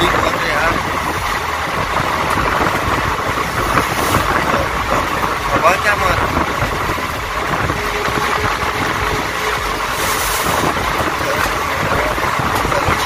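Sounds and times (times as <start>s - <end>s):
train rumbling: 0.0s - 13.0s
wind on microphone: 0.0s - 13.0s.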